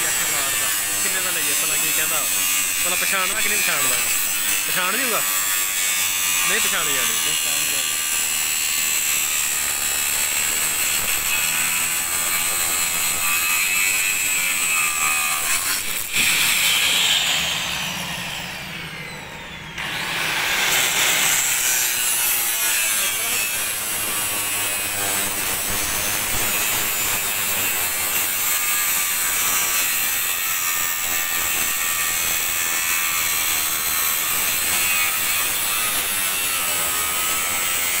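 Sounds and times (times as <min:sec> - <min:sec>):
angle grinder cutting steel: 0:00.0 - 0:38.0.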